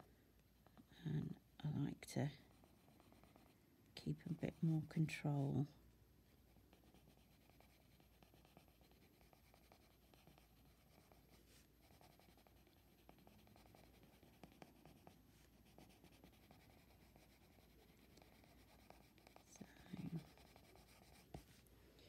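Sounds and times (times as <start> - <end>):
coloured pencil scratching on paper: 1.7 - 5.8, 6.4 - 21.7.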